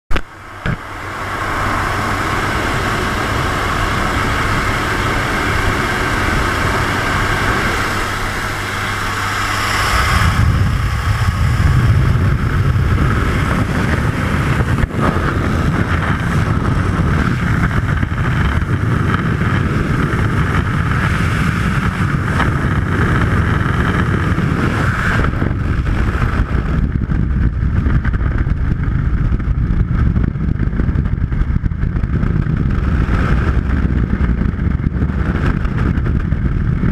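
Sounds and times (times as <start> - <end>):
airplane engine and propeller drone: 0.1 - 36.9
wind buffeting a camera: 0.1 - 36.9
wind rushing: 0.2 - 36.9.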